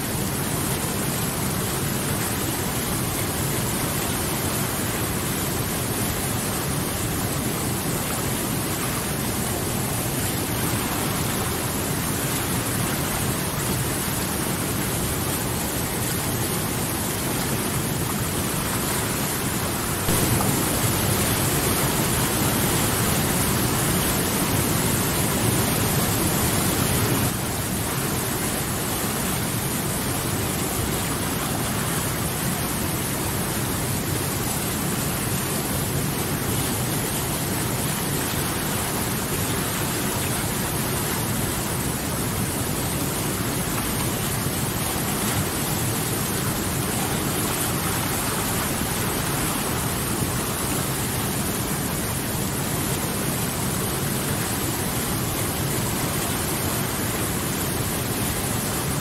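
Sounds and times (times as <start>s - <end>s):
water rushing over boulders: 0.0s - 59.0s.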